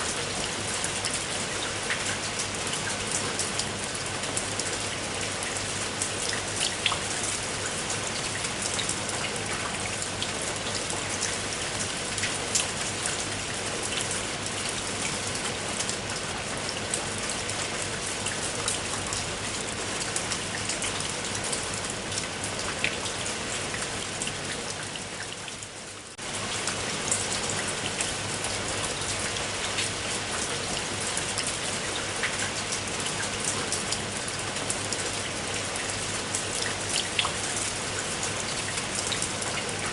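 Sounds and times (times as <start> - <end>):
rain drops on hard surface: 0.0 - 39.9.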